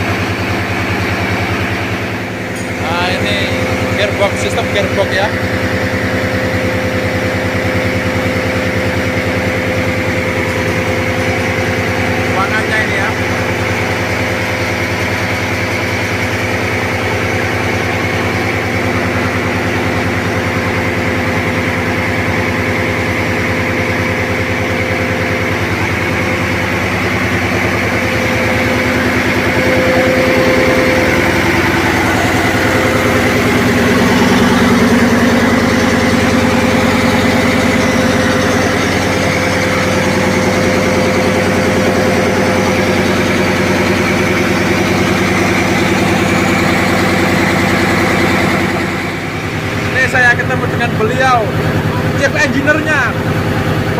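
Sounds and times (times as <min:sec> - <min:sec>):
diesel engines droning: 0:00.0 - 0:53.9.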